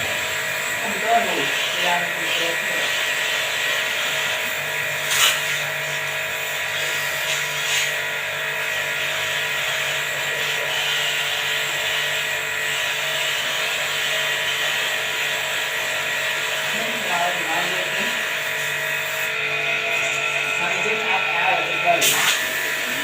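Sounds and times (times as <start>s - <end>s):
small electric motor humming: 0.0s - 23.0s.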